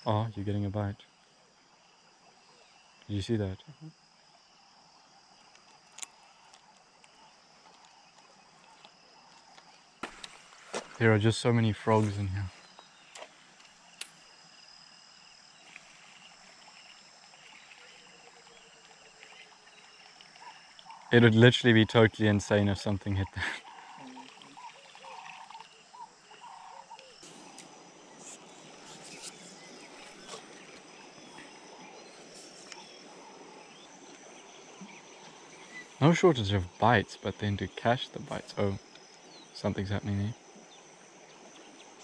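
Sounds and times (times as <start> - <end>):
frogs calling: 0.0 - 42.0
high insect trill: 0.0 - 42.0.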